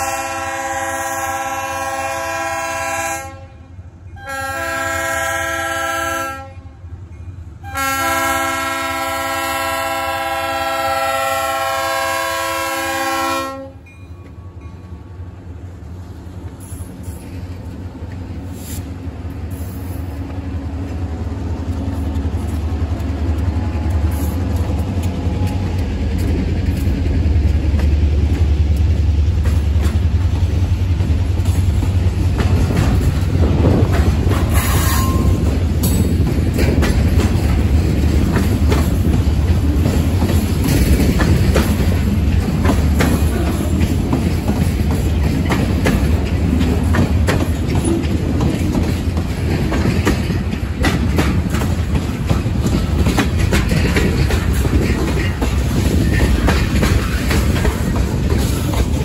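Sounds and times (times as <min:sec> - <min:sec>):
diesel locomotive engine rumble: 0:00.0 - 0:59.0
train wheels clicking over rail joints: 0:07.0 - 0:59.0.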